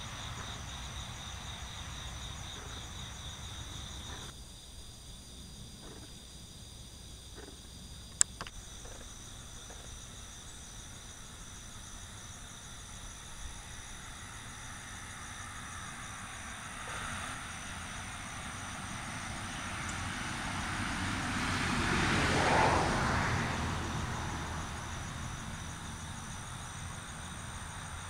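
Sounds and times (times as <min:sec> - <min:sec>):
distant engine noise: 0:00.0 - 0:04.4, 0:05.5 - 0:28.0
insects chorus: 0:00.0 - 0:28.0.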